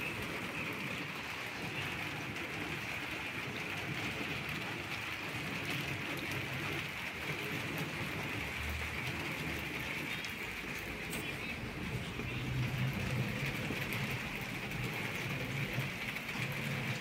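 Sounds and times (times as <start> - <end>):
rain falling steadily: 0.0 - 17.0.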